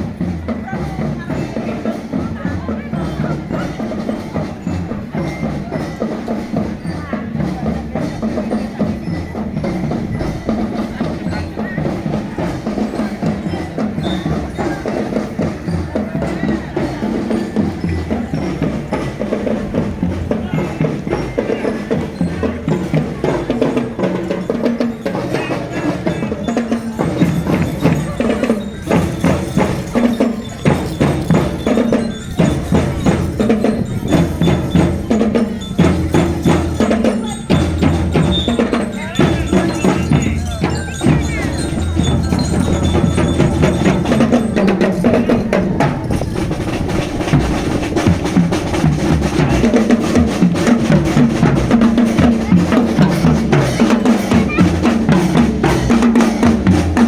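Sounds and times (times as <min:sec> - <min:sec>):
marching drums: 0:00.0 - 0:57.0
pitched melody: 0:00.1 - 0:57.0.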